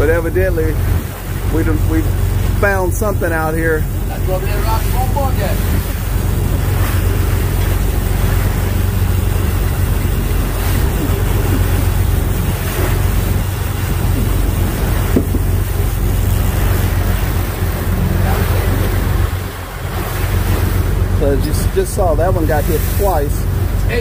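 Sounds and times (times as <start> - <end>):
boat engine droning: 0.0 - 24.0
churning water rushing: 0.0 - 24.0.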